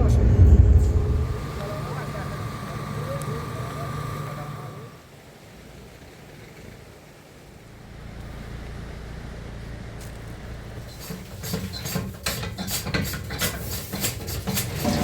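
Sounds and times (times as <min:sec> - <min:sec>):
engine humming: 0:00.0 - 0:12.2.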